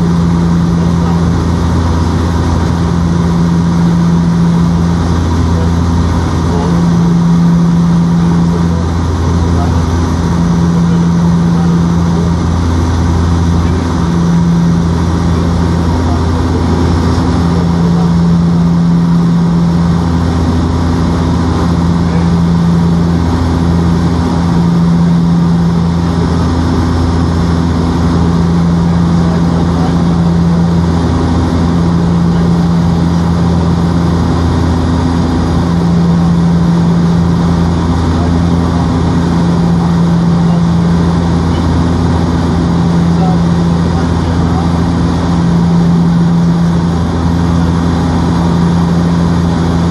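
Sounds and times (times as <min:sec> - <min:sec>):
airplane engines droning in cabin: 0:00.0 - 0:49.9.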